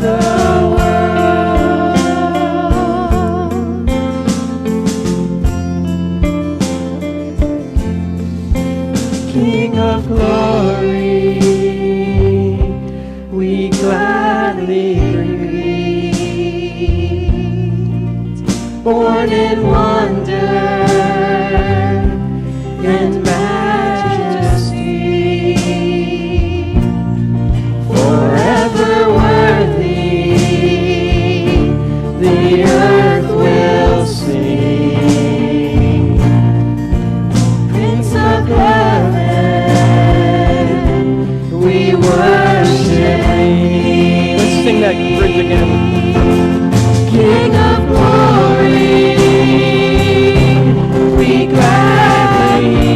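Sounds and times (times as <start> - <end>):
voices singing with vibrato: 0.0 - 4.4, 9.1 - 36.6, 37.4 - 52.9.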